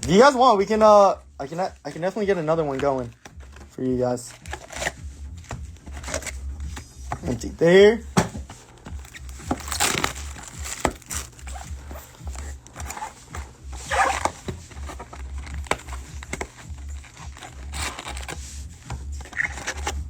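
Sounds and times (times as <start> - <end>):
cards and cardboard scraping: 0.0 - 20.0
wrappers crinkling: 0.0 - 20.0.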